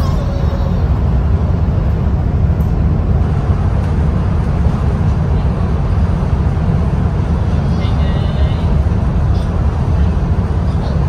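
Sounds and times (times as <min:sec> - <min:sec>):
bus engine rumble: 0:00.0 - 0:11.0
road noise: 0:00.0 - 0:11.0.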